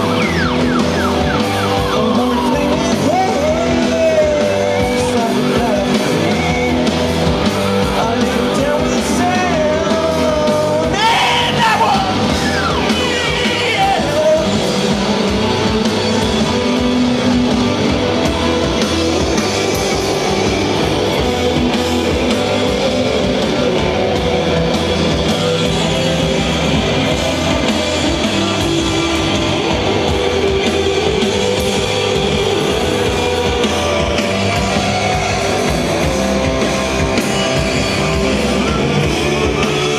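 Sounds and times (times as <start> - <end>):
distorted electric guitars: 0.0 - 39.9
psychedelic rock band playing: 0.0 - 39.9
person singing: 1.1 - 39.9.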